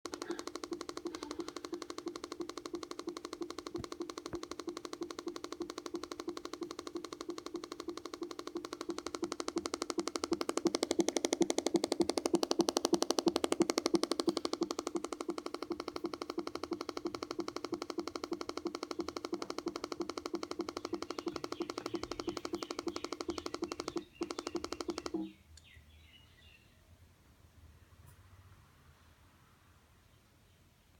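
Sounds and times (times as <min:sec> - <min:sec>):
laptop rapid clicking buzz: 0:00.0 - 0:25.4.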